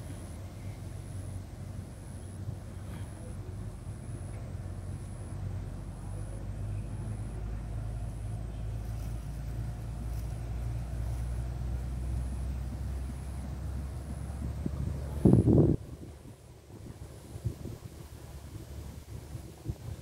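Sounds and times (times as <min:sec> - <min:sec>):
faint high-pitched pulsing tone: 0:00.0 - 0:18.1
low rumble: 0:00.0 - 0:20.0.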